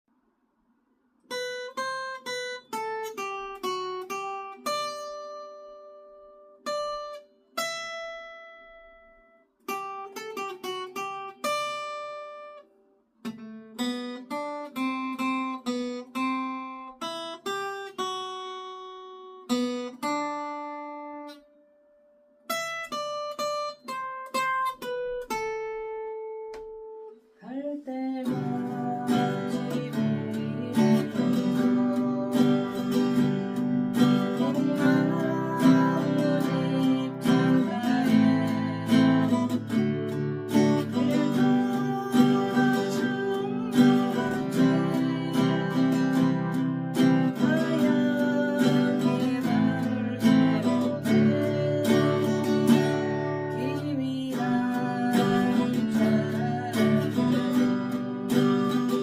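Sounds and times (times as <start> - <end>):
guitar strummed chords: 1.3 - 27.2, 28.0 - 59.0
acoustic guitar picked notes: 1.3 - 59.0.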